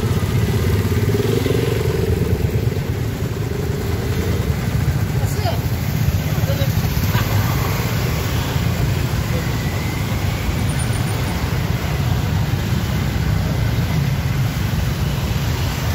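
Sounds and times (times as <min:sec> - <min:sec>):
motorcycle engines: 0:00.0 - 0:15.9
street traffic rumble: 0:00.0 - 0:15.9.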